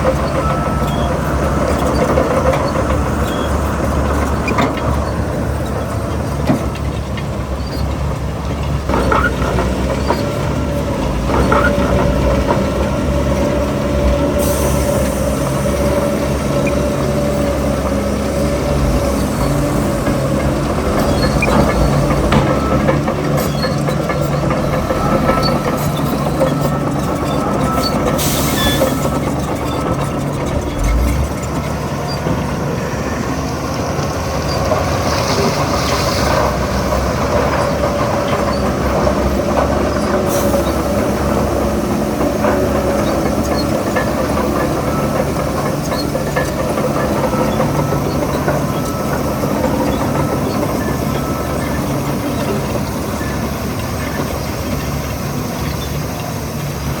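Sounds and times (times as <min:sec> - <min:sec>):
bulldozer diesel engine running: 0:00.0 - 0:57.0
steel tracks clattering: 0:00.0 - 0:57.0.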